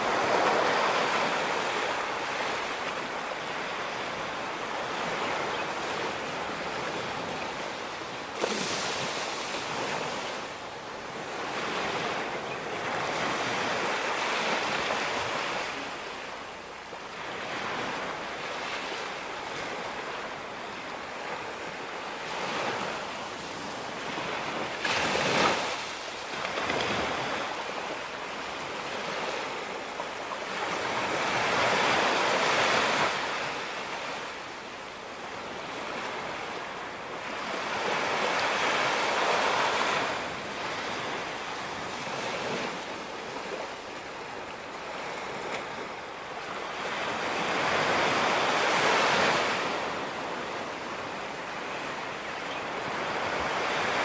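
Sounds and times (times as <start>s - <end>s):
waves breaking on sandy beach: 0.0s - 54.0s.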